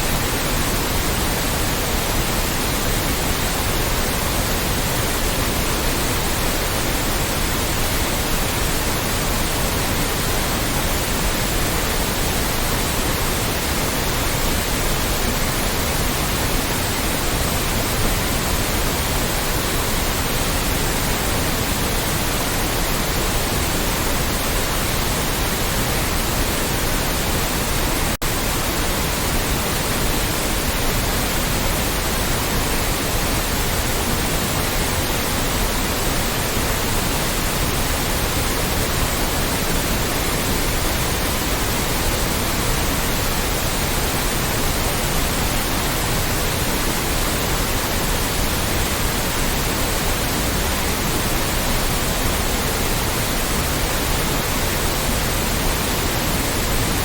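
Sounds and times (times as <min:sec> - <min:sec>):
loud steady white noise: 0:00.0 - 0:57.0.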